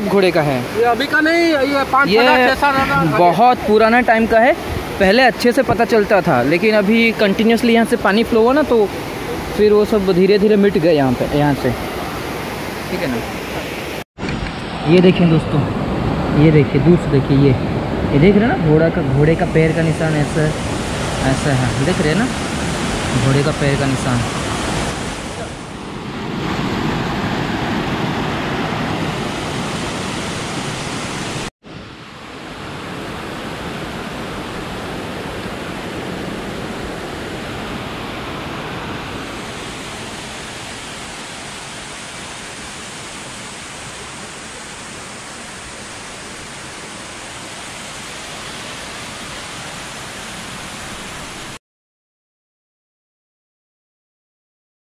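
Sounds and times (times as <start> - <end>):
waterfall rushing over rock: 0.0 - 51.6.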